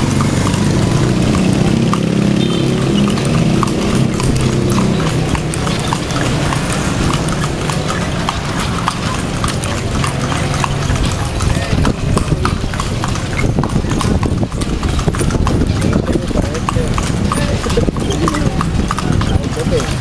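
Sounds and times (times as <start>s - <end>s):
horse hooves clip-clopping on pavement: 0.0s - 20.0s.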